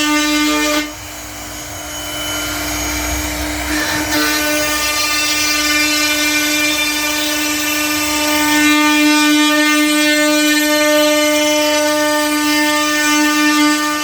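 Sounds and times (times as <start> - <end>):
router spindle high whine: 0.0 - 14.0.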